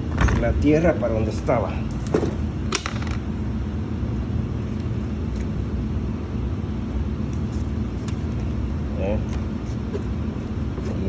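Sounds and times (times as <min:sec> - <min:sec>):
faint hum: 0:00.0 - 0:11.0
low mechanical rumble: 0:00.0 - 0:11.0.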